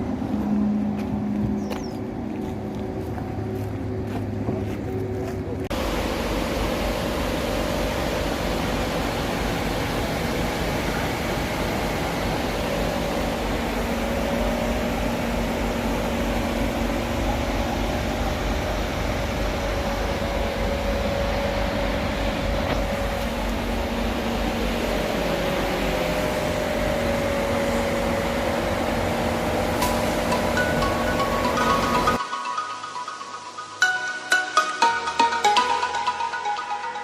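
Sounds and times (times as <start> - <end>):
bus engine idling: 0.0 - 32.2.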